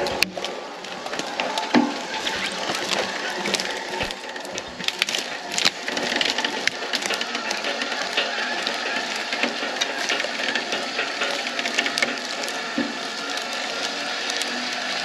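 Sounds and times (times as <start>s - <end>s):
branches cracking and snapping: 0.0s - 15.0s.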